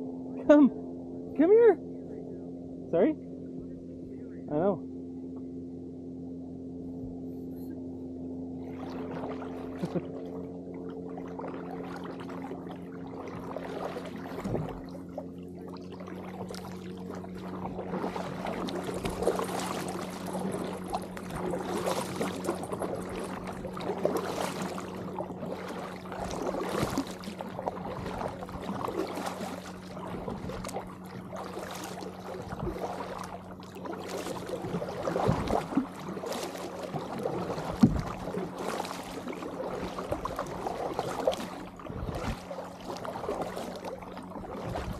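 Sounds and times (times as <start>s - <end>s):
steady low hum: 0.0s - 44.9s
paddle splashing in water: 8.4s - 44.9s
water trickling off paddle: 8.6s - 44.9s.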